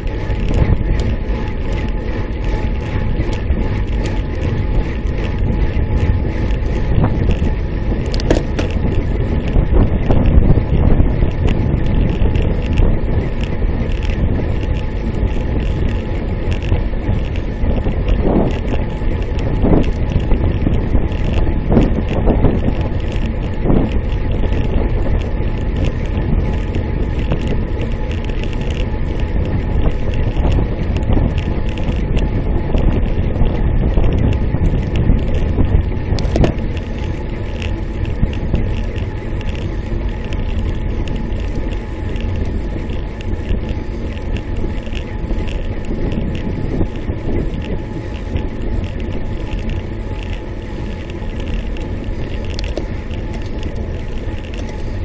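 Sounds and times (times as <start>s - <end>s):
tyres rumbling on asphalt: 0.0s - 55.0s
wind buffeting microphone: 0.0s - 55.0s.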